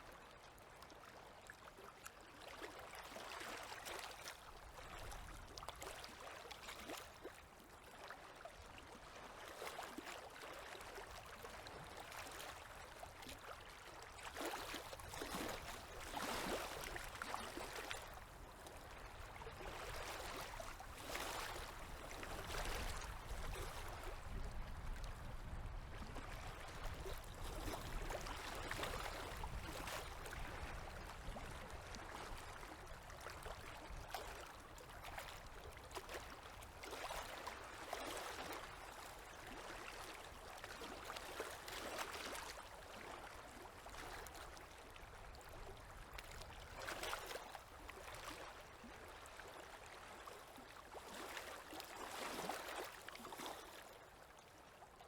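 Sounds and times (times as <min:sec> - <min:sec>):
waves lapping at shore: 0:00.1 - 0:54.9.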